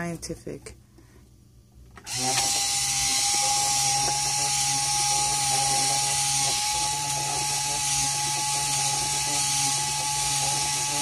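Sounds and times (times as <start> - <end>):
small electric motor whining: 2.0 - 11.0.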